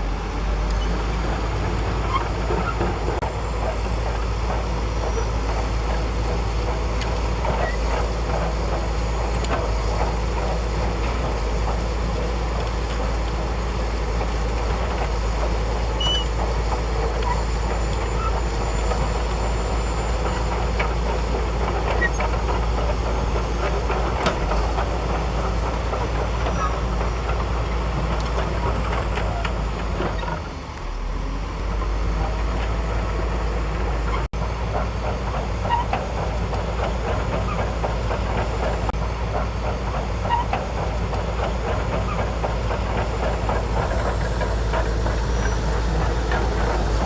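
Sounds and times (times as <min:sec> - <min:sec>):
bulldozer diesel engine rumbling: 0:00.0 - 0:47.0.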